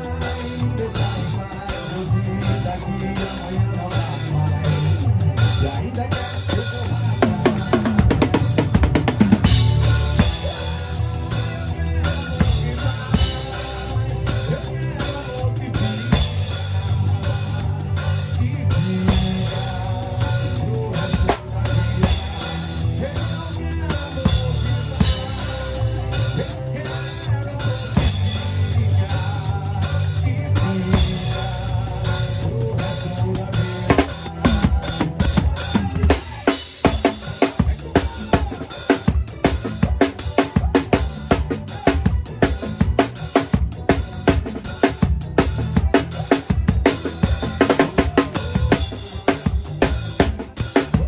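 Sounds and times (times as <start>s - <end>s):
drum kit playing: 0.0s - 51.0s
recorded bass and keyboard music: 0.0s - 51.0s.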